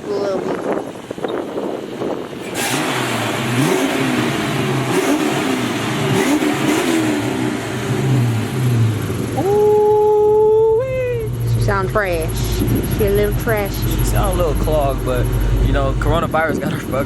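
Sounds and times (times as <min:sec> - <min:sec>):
car engine revving: 0:01.2 - 0:17.0.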